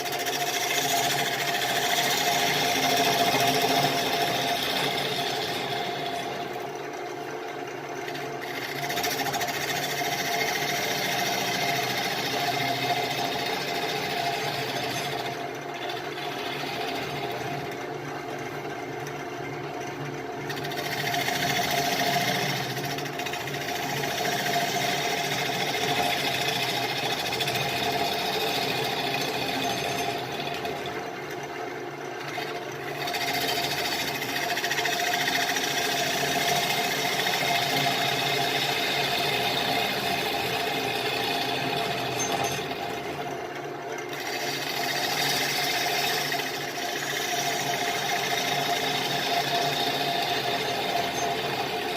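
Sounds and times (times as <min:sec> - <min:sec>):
wood lathe motor hum: 0:00.0 - 0:51.9.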